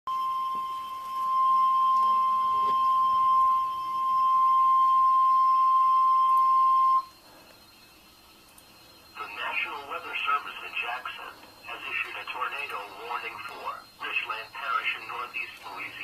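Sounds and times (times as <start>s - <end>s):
high-pitched warning alarm tone: 0.1s - 16.0s.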